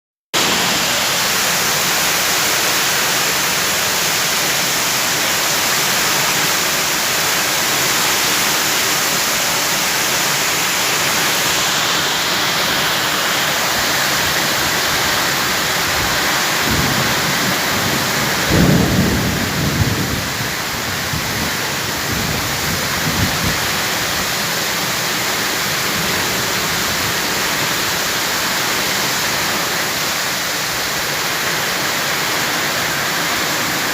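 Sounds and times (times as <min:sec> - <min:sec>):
strong wind: 0:00.4 - 0:32.0
heavy rain hissing: 0:00.4 - 0:33.9.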